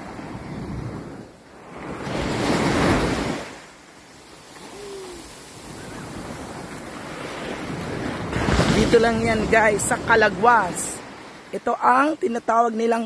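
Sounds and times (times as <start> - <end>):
wind on microphone: 0.0 - 3.6, 4.3 - 11.2
wave breaking: 0.0 - 11.5
small waves washing ashore: 0.0 - 13.0.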